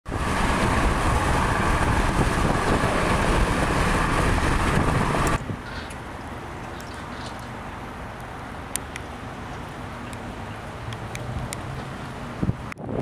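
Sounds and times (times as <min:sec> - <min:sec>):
cars passing at speed: 0:00.1 - 0:05.4, 0:07.6 - 0:13.0.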